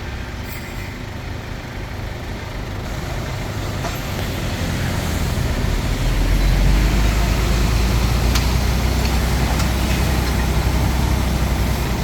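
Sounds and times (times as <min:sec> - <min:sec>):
bulldozer diesel engine rumbling: 0:00.0 - 0:12.0.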